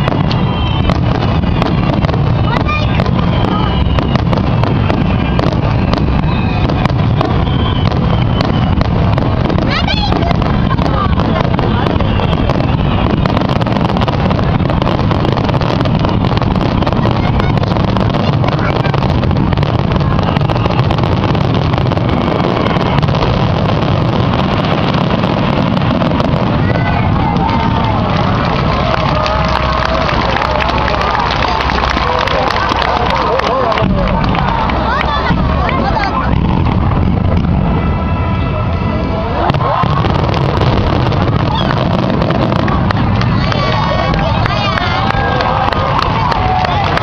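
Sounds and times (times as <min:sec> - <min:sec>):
fireworks bangs and pops: 0:00.0 - 0:47.0
low fireworks rumble: 0:00.0 - 0:47.0.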